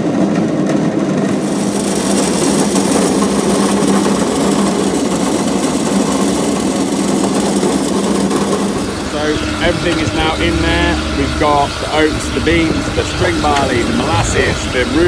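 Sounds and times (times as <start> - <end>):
roller mill running: 0.0 - 15.0
grain pouring hiss: 1.3 - 15.0.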